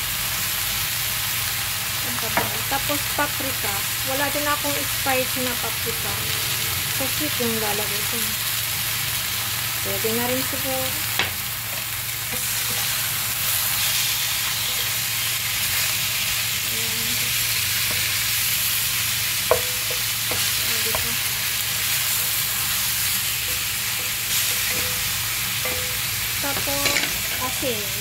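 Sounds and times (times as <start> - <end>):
meat sizzling in oil: 0.0 - 28.0.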